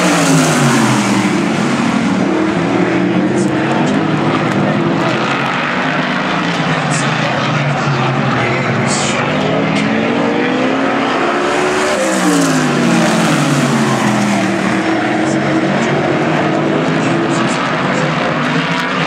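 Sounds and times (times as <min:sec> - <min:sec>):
race car engines at speed: 0:00.0 - 0:19.0
race car passing close: 0:00.0 - 0:19.0.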